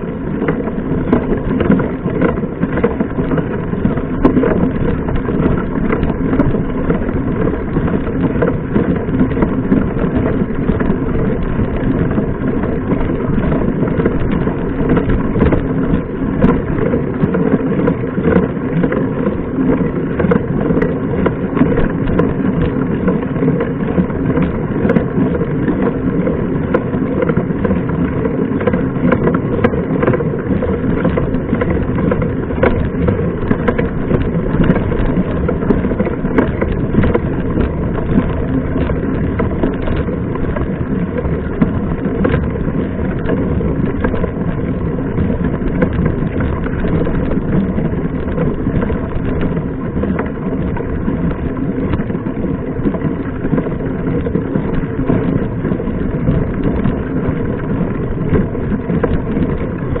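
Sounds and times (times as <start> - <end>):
bike rattling and knocking: 0.0 - 60.0
bike tyres rolling on dirt: 0.0 - 60.0
wind on microphone: 0.0 - 60.0.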